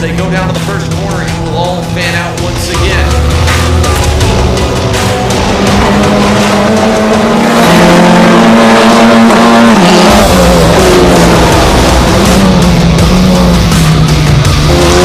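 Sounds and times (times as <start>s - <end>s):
race car engines at full throttle: 0.0s - 15.0s.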